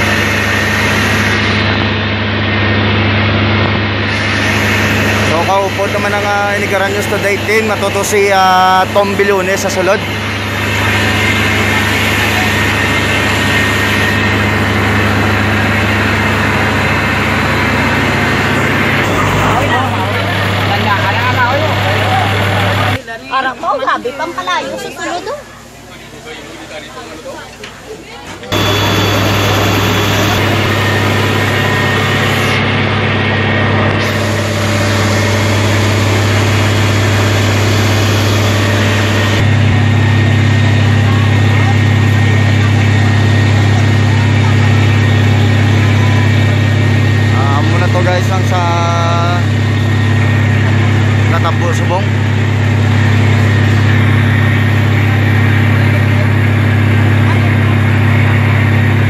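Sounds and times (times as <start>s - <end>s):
fire truck engine running: 0.0s - 23.0s, 25.5s - 59.0s.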